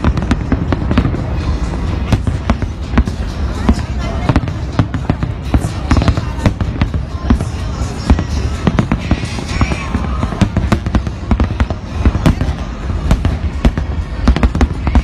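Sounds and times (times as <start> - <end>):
fireworks exploding: 0.0 - 15.0.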